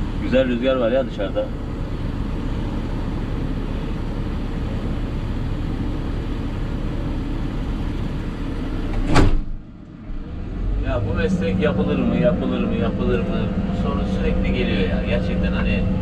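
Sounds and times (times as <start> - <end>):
excavator diesel engine running: 0.0 - 9.1, 9.7 - 16.0.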